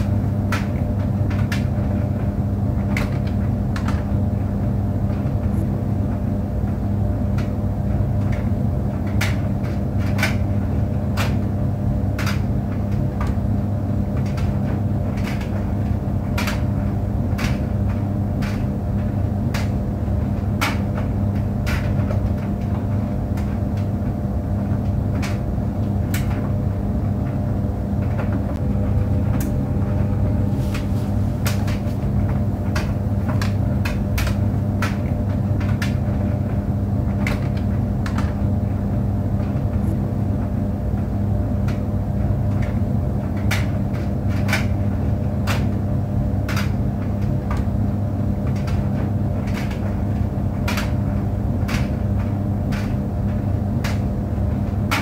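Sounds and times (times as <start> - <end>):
clothes dryer humming: 0.0 - 55.0
load knocking in dryer drum: 0.0 - 55.0.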